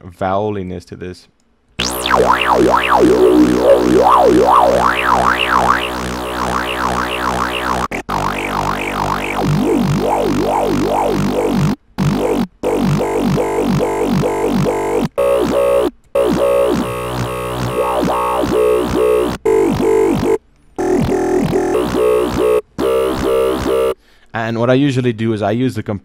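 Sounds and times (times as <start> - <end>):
wobbling dubstep growl bass: 1.8 - 24.0.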